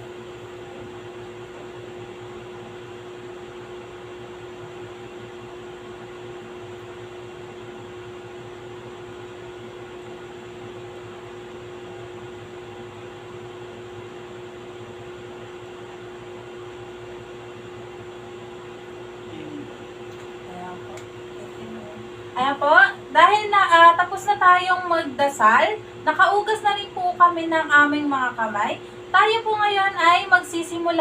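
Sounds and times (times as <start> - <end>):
electric fan humming: 0.0 - 31.0.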